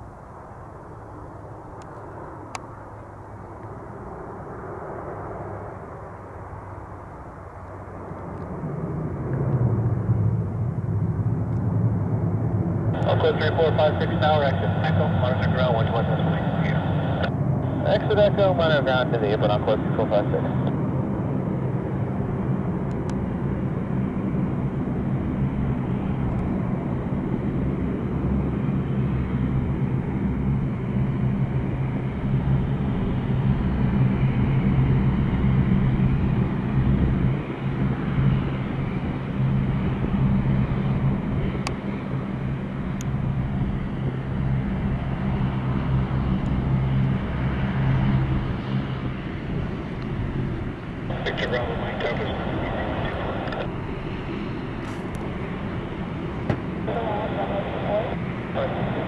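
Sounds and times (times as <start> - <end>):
turboprop aircraft droning hum: 0.0 - 59.0.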